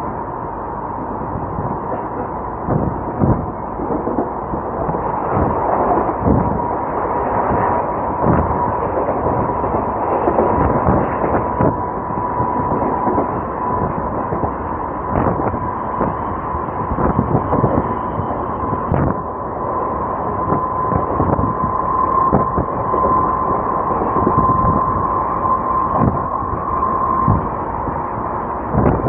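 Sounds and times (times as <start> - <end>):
steady whine: 0.0 - 29.0
train rumbling on rails: 0.0 - 29.0.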